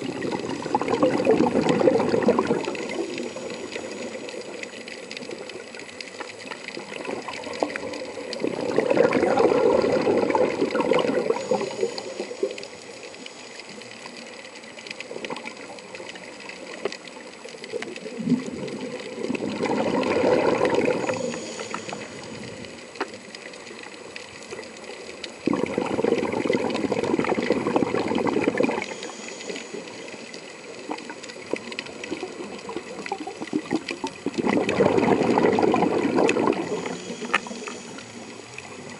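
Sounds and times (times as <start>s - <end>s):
underwater exhaust bubbles: 0.0s - 38.9s.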